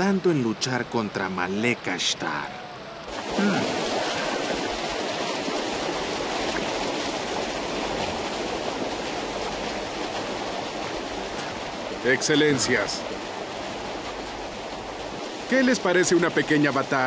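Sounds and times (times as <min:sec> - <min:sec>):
water splashing over rocks: 0:00.0 - 0:17.0.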